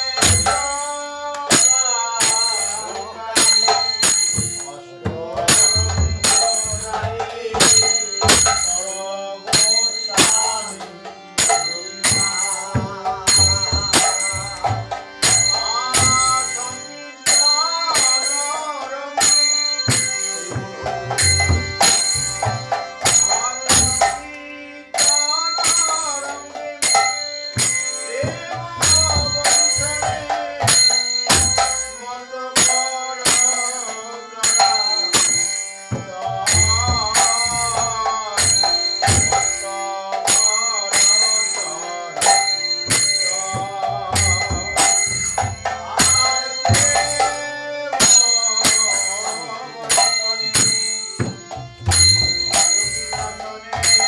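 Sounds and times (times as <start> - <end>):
hand cymbals ringing: 0.0 - 54.0
harmonium chords: 0.0 - 54.0
person singing: 0.0 - 54.0.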